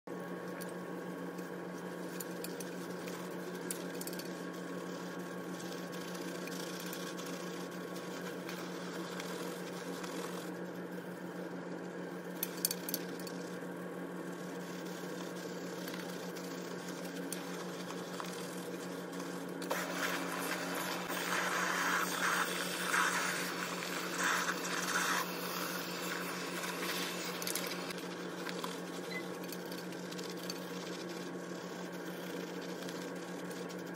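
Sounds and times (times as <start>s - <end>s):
background hum: 0.1s - 33.9s.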